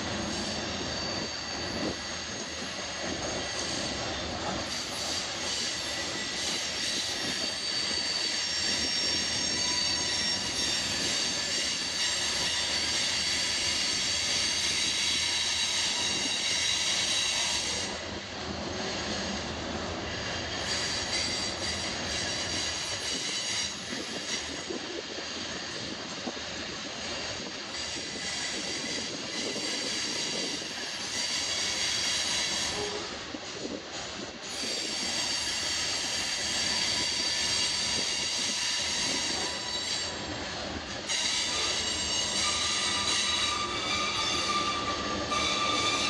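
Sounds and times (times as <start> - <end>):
freight train rumbling and clattering: 0.0 - 46.0
wheel flanges squealing on rail: 0.0 - 46.0.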